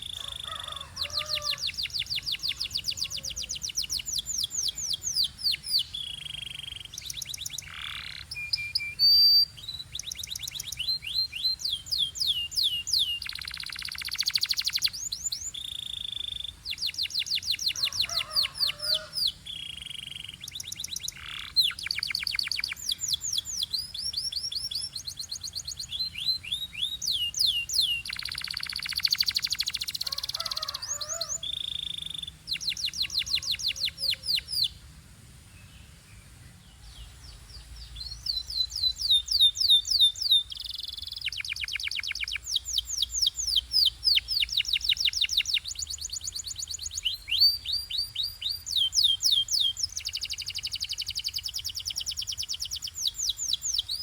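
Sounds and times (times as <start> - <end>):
canary singing trills: 0.0 - 34.8, 36.7 - 54.0.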